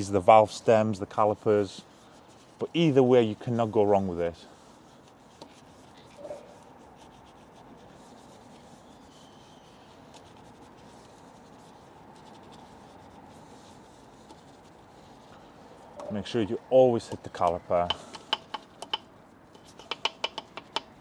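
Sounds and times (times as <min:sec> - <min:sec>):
brush bristles rubbing: 0:00.0 - 0:21.0.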